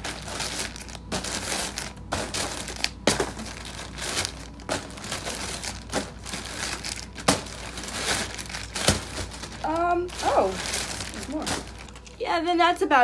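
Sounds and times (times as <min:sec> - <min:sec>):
plastic mailer bags crinkling: 0:00.0 - 0:12.6.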